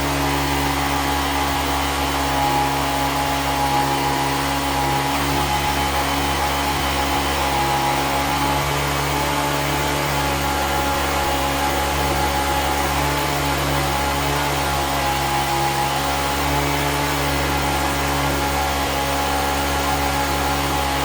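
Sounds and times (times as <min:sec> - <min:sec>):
electric motor hum and whine: 0:00.0 - 0:21.0.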